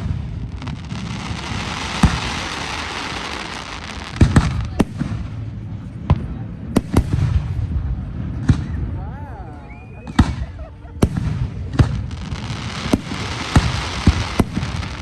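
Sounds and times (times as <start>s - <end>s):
firework bangs: 0.0s - 9.0s, 10.1s - 15.0s
low rumble: 0.0s - 15.0s.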